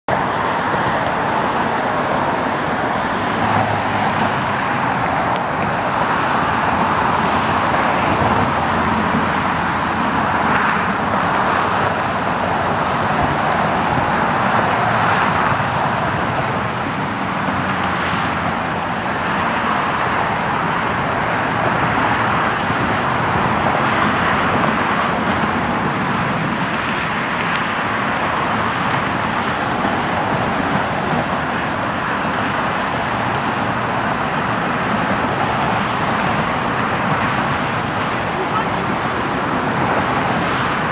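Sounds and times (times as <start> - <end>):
road traffic noise: 0.0 - 40.9.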